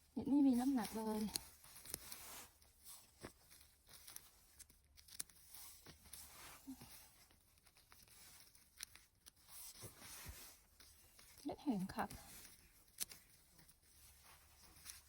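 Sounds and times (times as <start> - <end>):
dry mushrooms crackling and rustling: 0.0 - 15.0.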